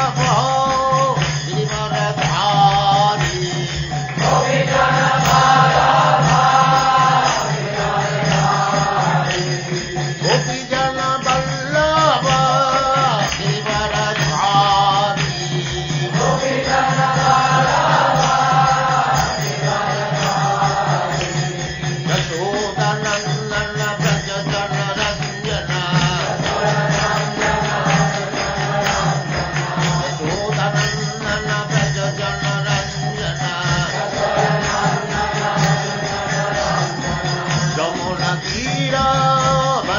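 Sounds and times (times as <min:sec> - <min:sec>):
rhythmic percussion beat: 0:00.0 - 0:39.9
voices chanting: 0:00.0 - 0:39.9.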